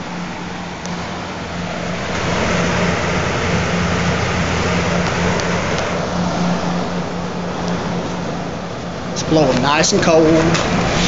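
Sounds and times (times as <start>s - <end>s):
air conditioner fan rushing: 0.0s - 11.0s
low hum: 0.0s - 11.0s.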